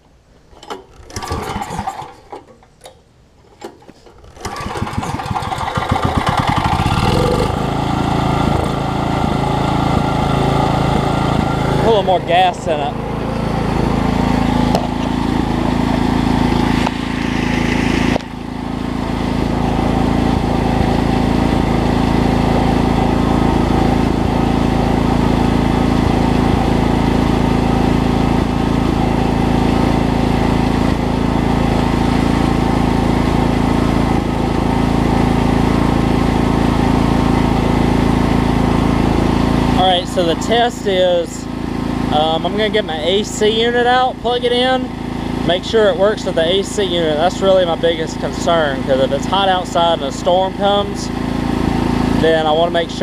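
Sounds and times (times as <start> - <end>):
generator engine running: 0.6 - 53.0.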